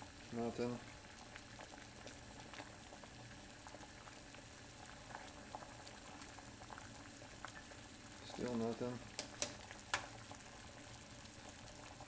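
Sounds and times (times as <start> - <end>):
water boiling in a saucepan: 0.0 - 12.0.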